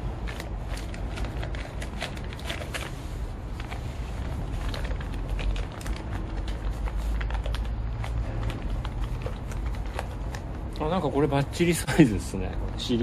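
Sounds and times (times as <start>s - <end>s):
plastic and fabric rustling: 0.0s - 13.0s
steady low rumble: 0.0s - 13.0s.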